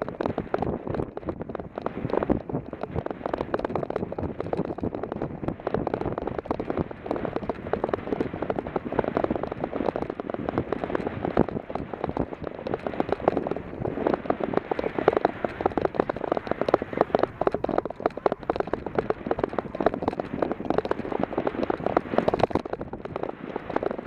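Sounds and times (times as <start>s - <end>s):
bike rattling over bumps: 0.0s - 24.0s.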